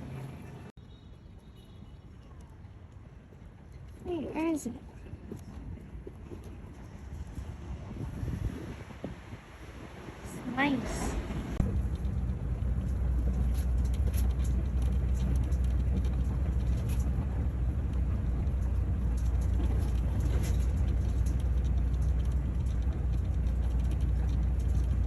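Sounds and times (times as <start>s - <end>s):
low vehicle rumble: 0.0s - 0.8s, 2.4s - 25.0s.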